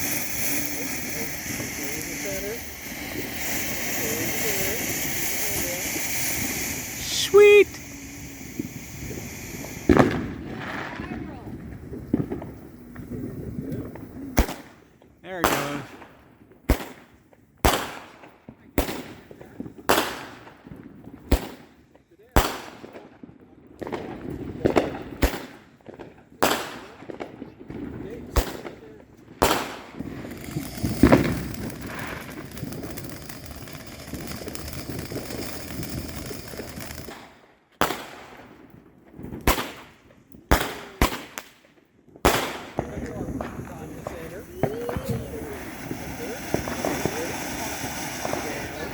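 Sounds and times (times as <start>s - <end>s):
fireworks bangs echoing: 0.0s - 14.8s, 15.4s - 48.9s.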